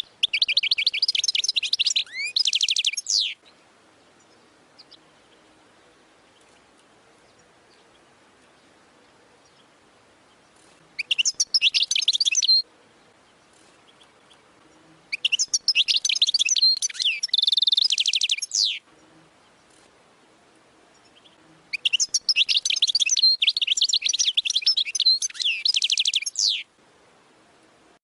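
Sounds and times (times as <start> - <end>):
goldfinch twittering song: 0.0 - 5.5, 6.2 - 19.9, 20.9 - 26.7.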